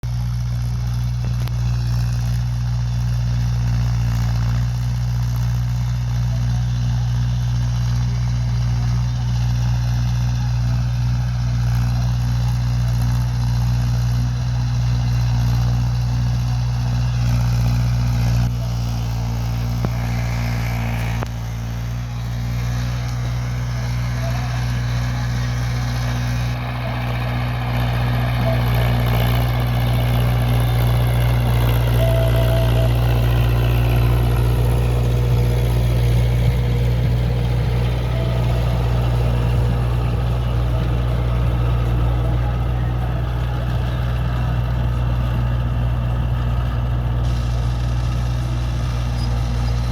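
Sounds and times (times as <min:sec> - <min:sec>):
tractor diesel engine droning: 0:00.0 - 0:49.9.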